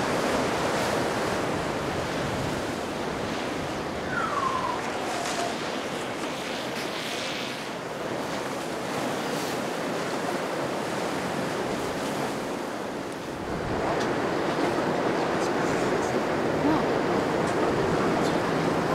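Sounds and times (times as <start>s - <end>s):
ocean waves and surf: 0.0s - 18.9s
wind on microphone: 0.0s - 18.9s.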